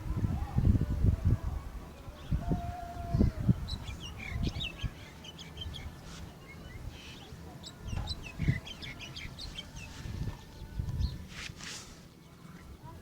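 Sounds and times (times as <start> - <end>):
small birds chirping: 1.3 - 13.0.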